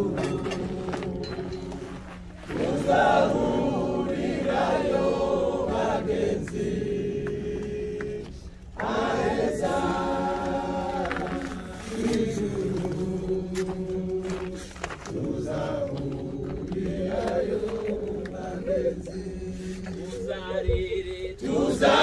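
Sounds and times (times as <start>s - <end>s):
group singing together: 0.0s - 22.0s.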